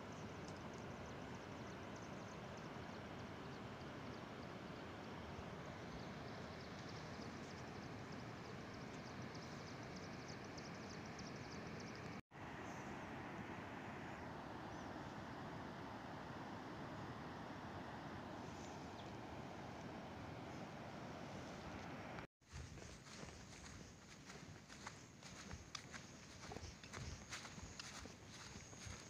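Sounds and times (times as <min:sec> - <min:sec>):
outdoor ambient noise: 0:00.0 - 0:29.0.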